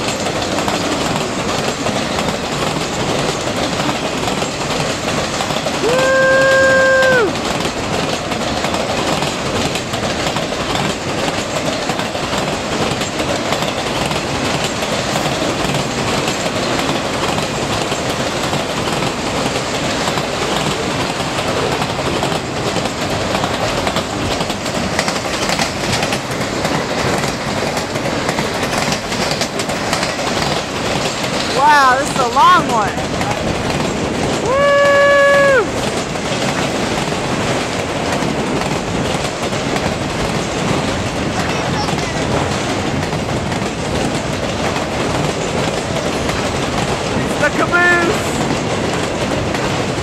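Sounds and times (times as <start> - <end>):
train wheels rushing on rails: 0.0 - 50.0.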